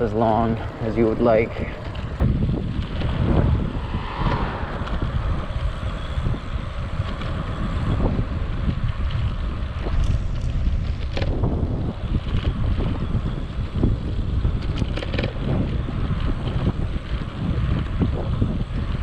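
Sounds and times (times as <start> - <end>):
road noise: 0.0 - 19.0
wind buffeting microphone: 0.0 - 19.0.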